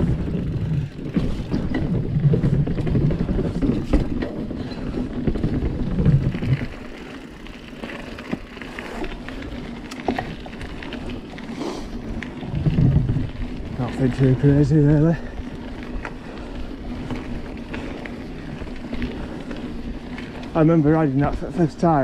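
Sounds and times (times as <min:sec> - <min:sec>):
wind buffeting microphone: 0:00.0 - 0:07.0, 0:09.6 - 0:22.0
bike clicks and rattles: 0:00.0 - 0:22.0
bike tyre rumble on gravel: 0:00.0 - 0:22.0.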